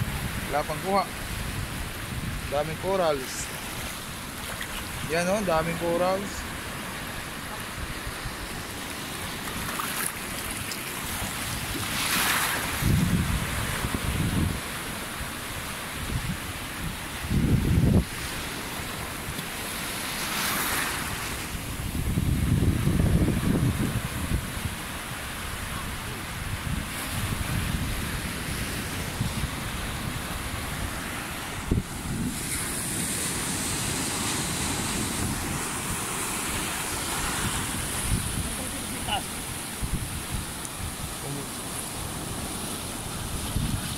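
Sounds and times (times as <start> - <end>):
wind rumbling on microphone: 0.0 - 5.2, 5.8 - 19.5, 20.2 - 43.9
sea water surging over rocks: 0.0 - 43.9.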